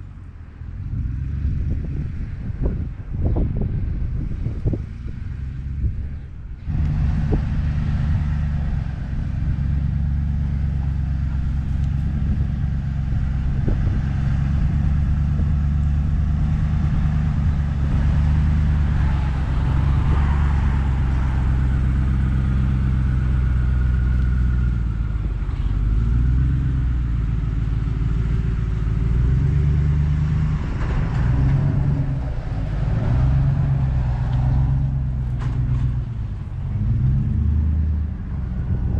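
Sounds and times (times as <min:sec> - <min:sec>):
truck engine drone: 0:00.0 - 0:38.9.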